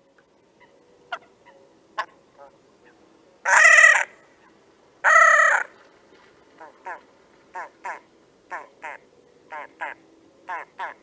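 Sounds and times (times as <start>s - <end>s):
grebes calling: 0.6s - 5.7s, 6.6s - 11.0s.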